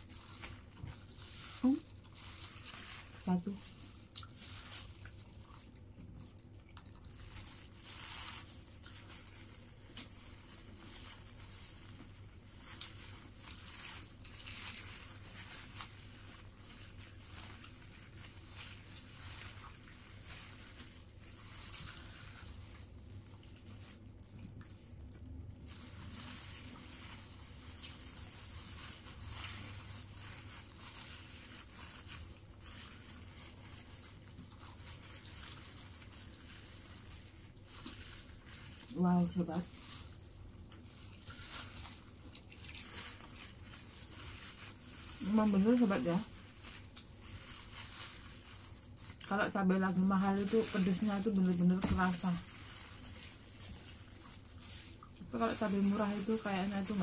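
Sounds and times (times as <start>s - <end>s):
chewing and crunching: 0.0s - 49.4s, 50.3s - 57.0s
plastic and paper crinkling: 0.0s - 57.0s.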